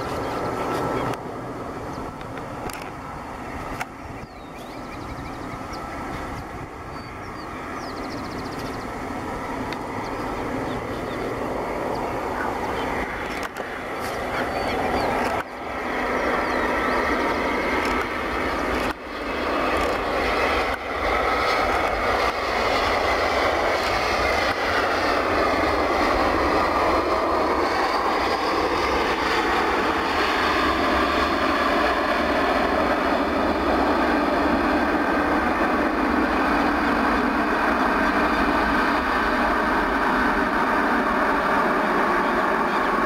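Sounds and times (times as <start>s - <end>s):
jet engines roaring: 0.0s - 43.0s.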